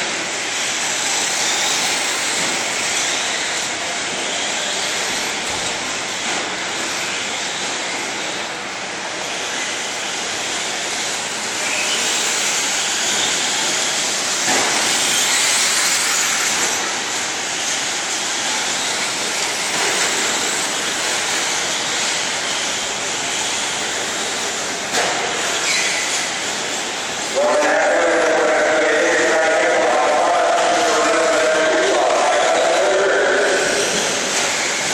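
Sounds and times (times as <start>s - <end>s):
model trucks racing: 0.0s - 34.9s.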